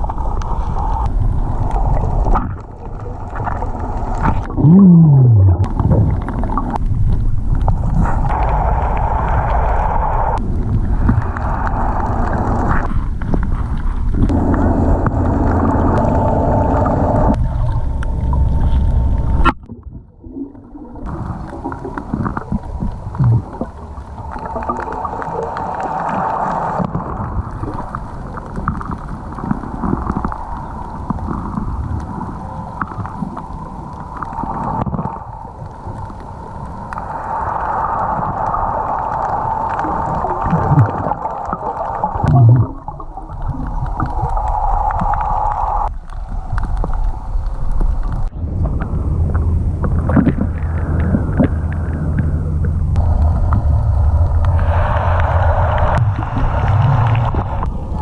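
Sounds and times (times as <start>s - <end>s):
water gurgling and bubbling: 0.0s - 58.0s.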